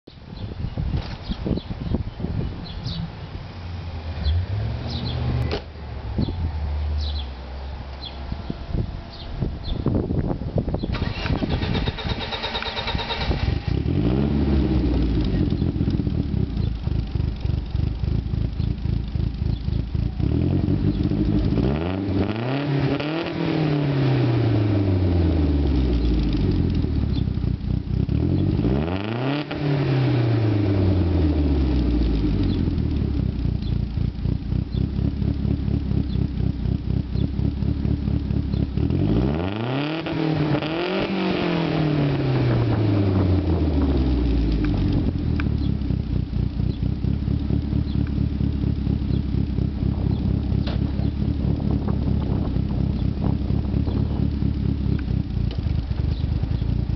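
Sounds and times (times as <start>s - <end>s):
car engine idling and revving: 0.9s - 56.9s.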